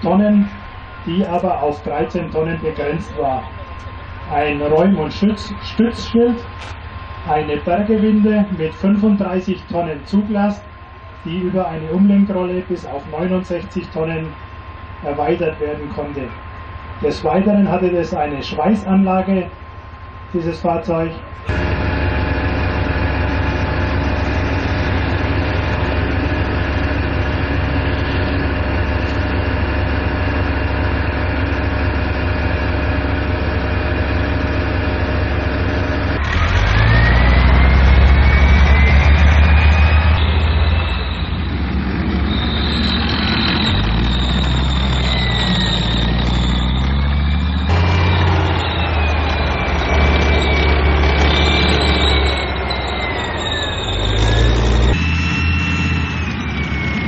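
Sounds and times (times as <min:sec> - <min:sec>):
high whine rising and falling: 0:00.0 - 0:57.0
tracked vehicle diesel engines: 0:00.0 - 0:57.0.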